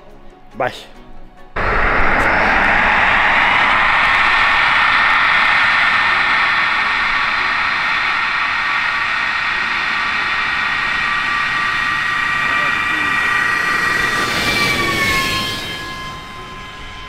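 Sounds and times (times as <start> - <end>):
electric ducted fans whining: 1.6 - 17.0.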